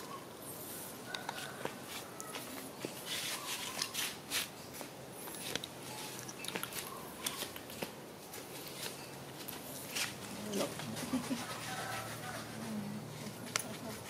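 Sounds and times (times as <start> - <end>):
paws scrabbling on dry leaves: 0.0 - 14.0.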